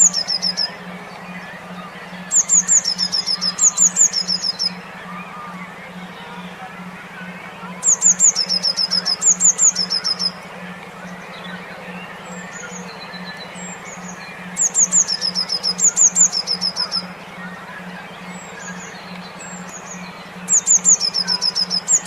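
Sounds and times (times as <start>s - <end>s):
fainter bird calls: 0.0s - 22.0s
low pulsing hum: 0.0s - 22.0s
songbird chirping: 0.0s - 22.0s.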